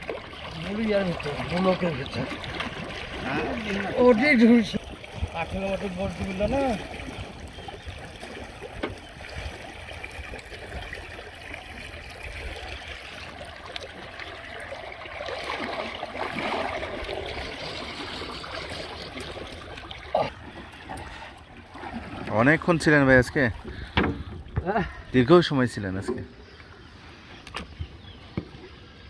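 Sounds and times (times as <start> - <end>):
water streaming off body: 0.0 - 27.8
water splashing and trickling: 0.0 - 29.0.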